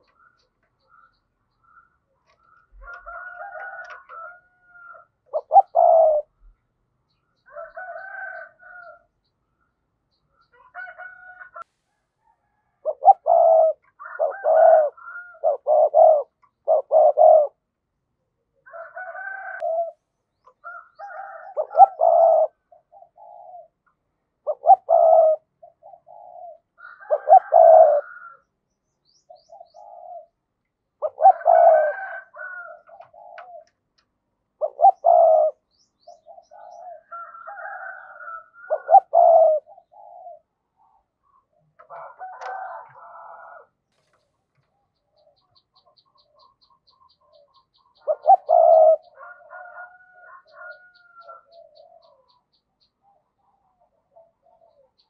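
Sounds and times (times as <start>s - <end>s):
dove cooing: 0.0s - 6.6s, 12.5s - 17.7s, 18.6s - 20.0s, 20.7s - 28.4s, 29.3s - 30.4s, 31.0s - 55.0s.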